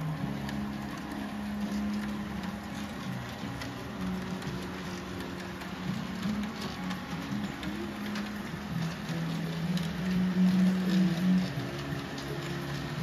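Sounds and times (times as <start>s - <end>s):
model locomotive engine drone: 0.0s - 13.0s
wheels clicking over track: 0.0s - 13.0s.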